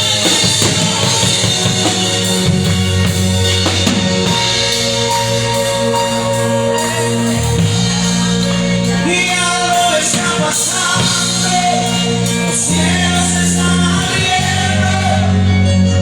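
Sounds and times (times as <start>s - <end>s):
gospel band playing: 0.0s - 16.0s
singers singing: 0.0s - 16.0s.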